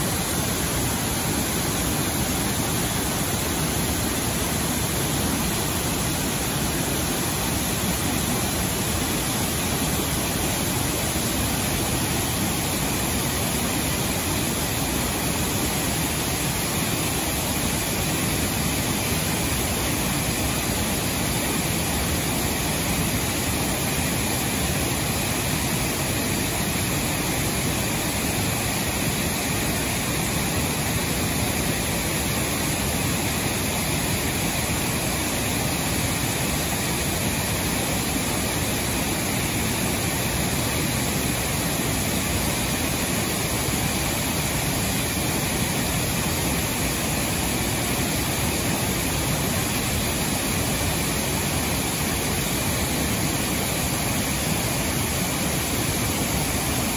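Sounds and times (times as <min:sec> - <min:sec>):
waterfall rushing onto rocks: 0:00.0 - 0:56.9.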